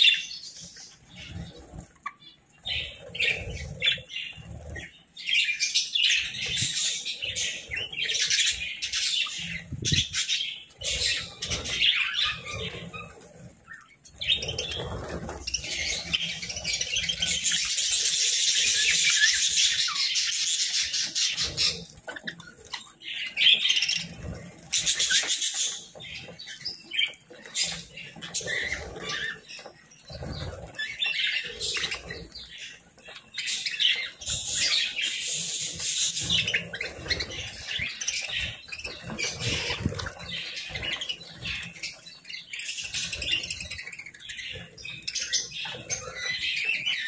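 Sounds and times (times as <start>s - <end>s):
budgerigars chattering and chirping: 0.0s - 47.0s
wings flapping: 6.1s - 47.0s.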